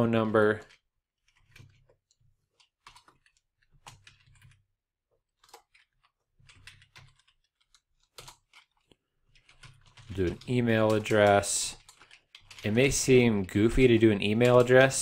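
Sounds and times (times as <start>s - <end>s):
typing on computer keyboard: 0.0s - 4.6s, 5.3s - 15.0s.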